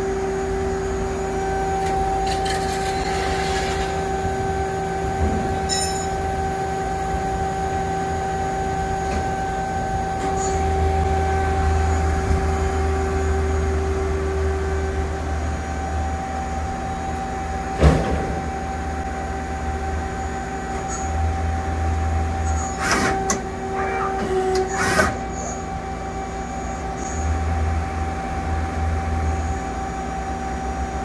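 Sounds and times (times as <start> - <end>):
lathe humming and whining: 0.0 - 31.0.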